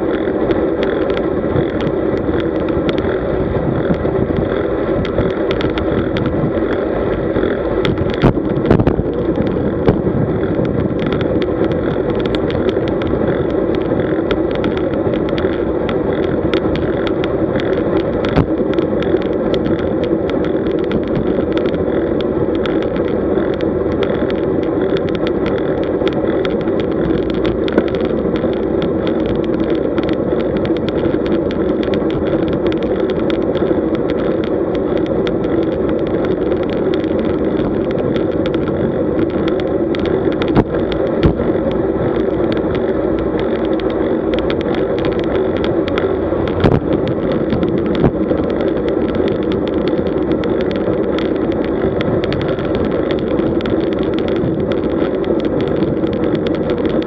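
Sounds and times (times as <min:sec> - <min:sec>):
small clicks and knocks: 0:00.0 - 0:57.0
wind and road noise: 0:00.0 - 0:57.0.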